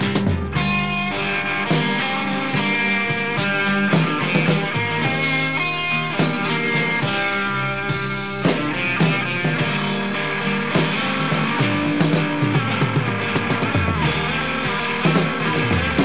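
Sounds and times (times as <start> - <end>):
live rock band guitars: 0.0 - 16.0.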